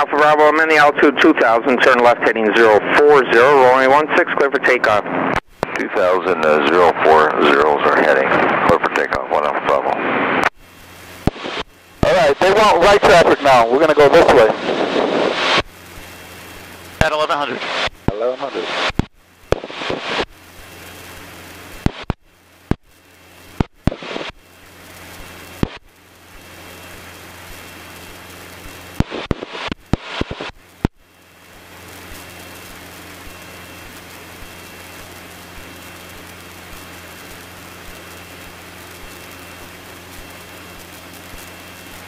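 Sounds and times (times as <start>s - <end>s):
airplane engine and propeller drone: 0.0s - 42.0s.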